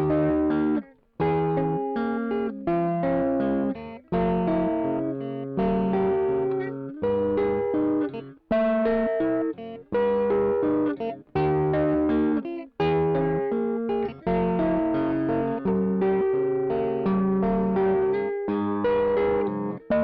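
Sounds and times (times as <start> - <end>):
overdriven electric guitar phrases: 0.0 - 20.0.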